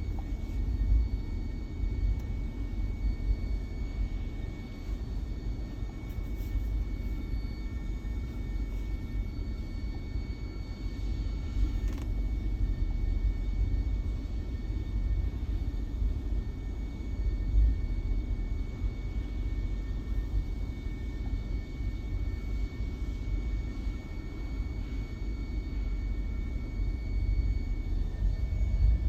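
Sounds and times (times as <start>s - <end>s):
faint high whine: 0.0s - 29.0s.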